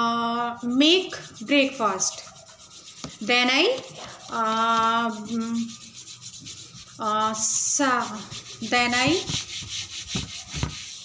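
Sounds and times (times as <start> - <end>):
faint scratchy rubbing: 0.5 - 11.0.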